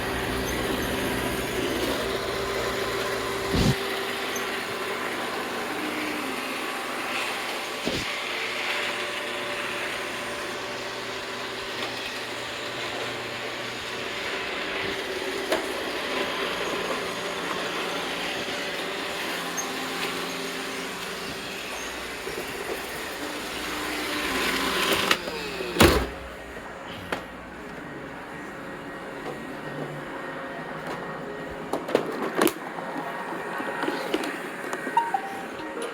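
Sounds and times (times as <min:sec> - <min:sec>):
robot vacuum cleaner whirring: 0:00.0 - 0:35.9.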